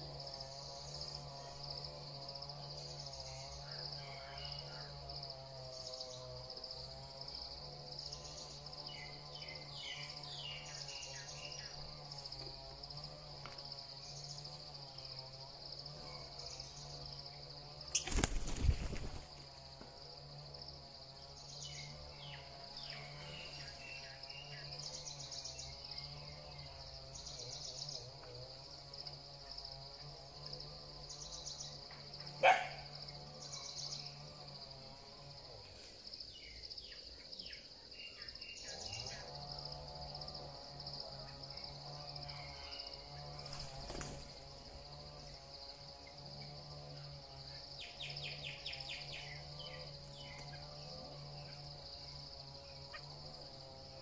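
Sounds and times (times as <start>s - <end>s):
insect drone: 0.0s - 54.0s.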